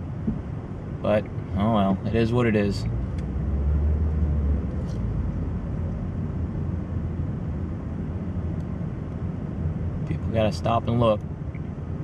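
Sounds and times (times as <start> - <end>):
car engine rumble: 0.0 - 12.0
road noise inside car: 0.0 - 12.0.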